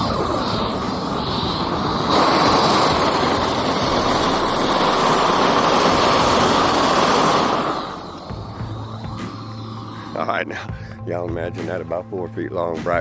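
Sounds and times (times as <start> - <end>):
gas torch hissing: 0.0 - 12.8.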